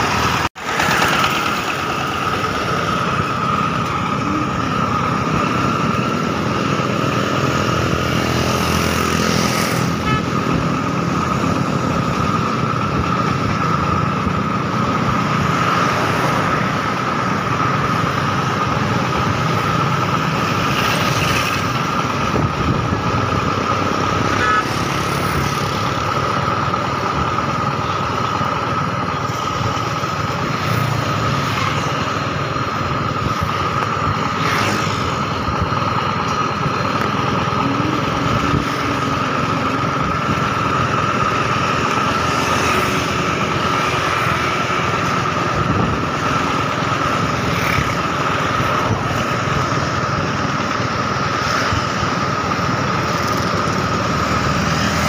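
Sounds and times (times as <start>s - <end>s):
high whine: 0.0s - 55.0s
road and wind noise: 0.0s - 55.0s
vehicle engines running: 0.0s - 55.0s.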